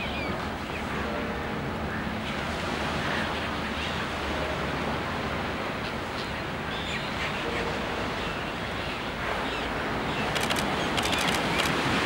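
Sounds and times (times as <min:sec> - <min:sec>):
surf on a beach: 0:00.0 - 0:12.0.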